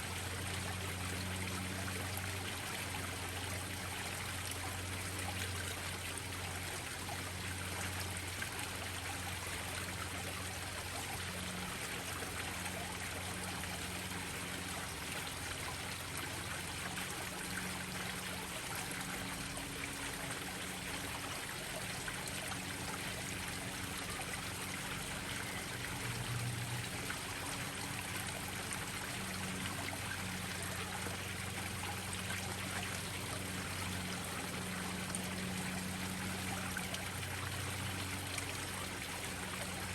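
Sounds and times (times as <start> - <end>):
faint low hum: 0.0 - 39.9
waterfall splashing into pond: 0.0 - 39.9.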